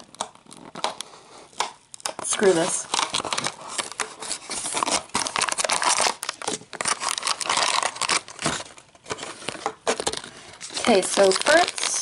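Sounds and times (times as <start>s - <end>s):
plastic wrap crinkling: 0.0s - 12.0s
paper and foil seal ripping: 2.1s - 12.0s.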